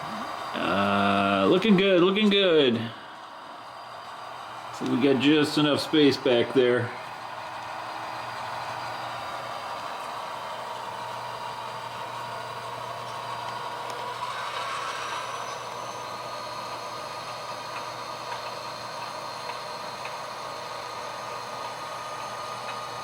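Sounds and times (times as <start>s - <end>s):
model train diesel engine sound: 0.0s - 23.0s.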